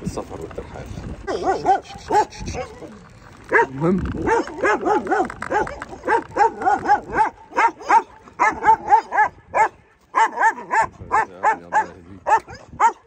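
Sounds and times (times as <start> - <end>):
dog yapping: 1.3 - 13.0.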